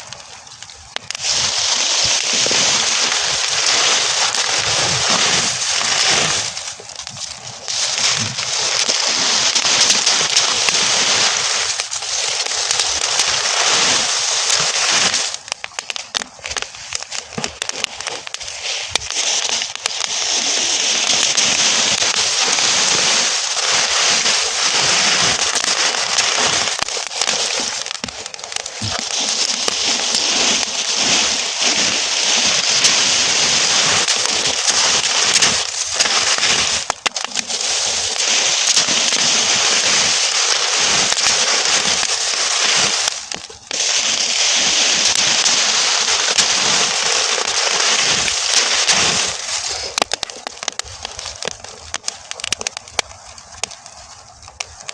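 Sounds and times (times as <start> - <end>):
burning straw crackling: 0.0 - 54.9.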